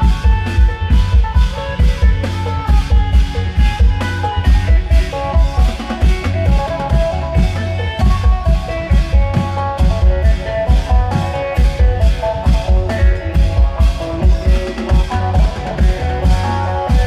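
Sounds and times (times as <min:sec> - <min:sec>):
fast driving drum beat: 0:00.0 - 0:17.0
plucked string melody: 0:00.0 - 0:17.0.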